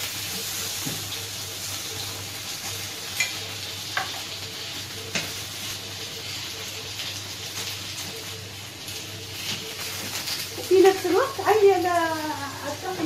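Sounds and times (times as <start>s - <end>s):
potato slices sizzling in oil: 0.0s - 13.0s.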